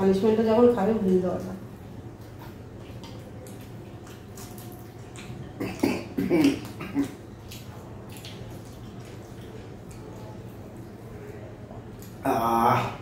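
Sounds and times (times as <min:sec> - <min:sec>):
wet chewing: 0:00.8 - 0:13.0.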